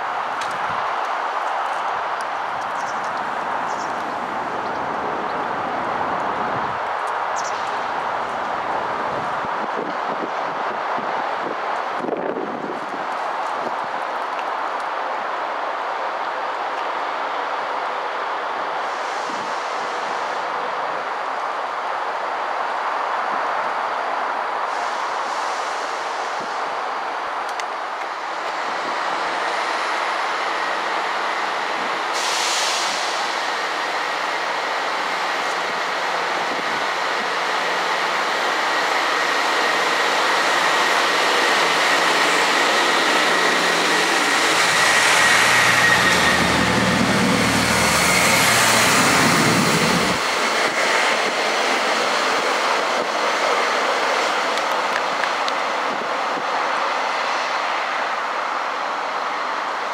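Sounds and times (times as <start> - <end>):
train wheel and rail noise: 0.0 - 59.9.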